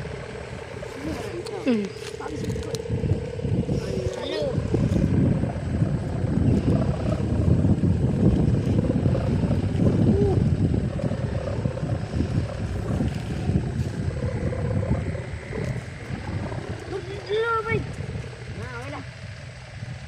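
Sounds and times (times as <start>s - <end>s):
faint wavering hum: 0.0s - 20.0s
wind buffeting microphone: 0.0s - 20.0s.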